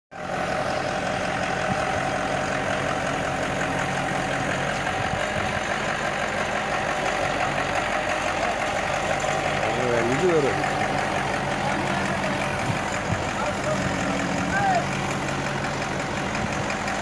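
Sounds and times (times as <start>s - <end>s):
crane engine humming: 0.2s - 17.0s.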